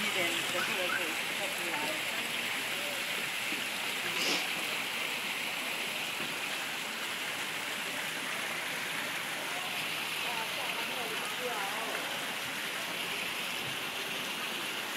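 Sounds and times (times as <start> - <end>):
fountain water splashing on stone: 0.0 - 14.9.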